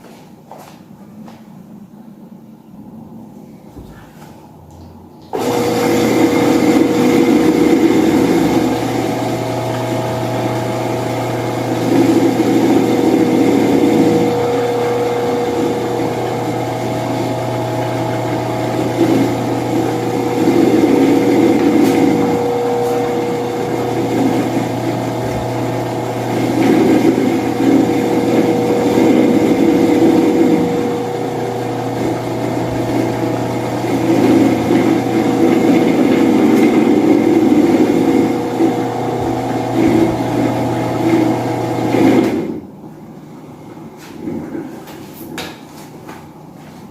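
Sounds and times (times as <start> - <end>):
electric fan running: 0.0 - 46.9.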